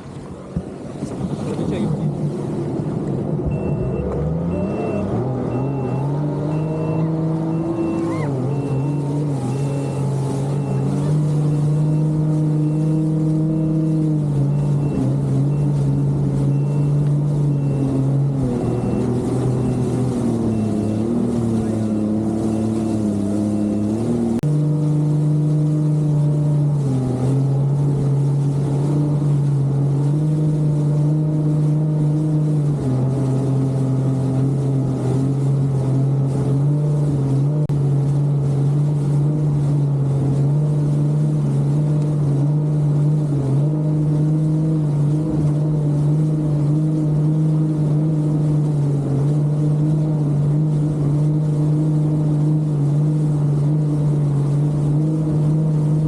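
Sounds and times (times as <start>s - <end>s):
jet ski engine droning: 0.0s - 56.0s.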